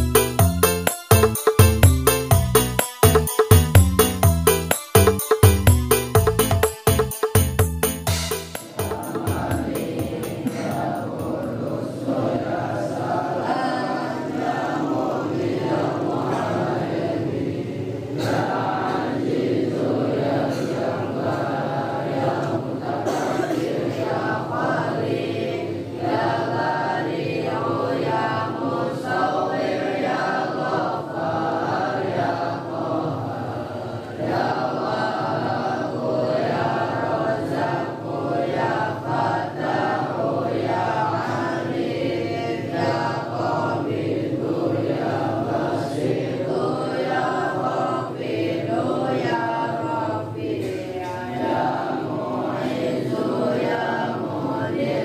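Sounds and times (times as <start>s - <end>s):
men chanting in unison: 8.7s - 55.0s.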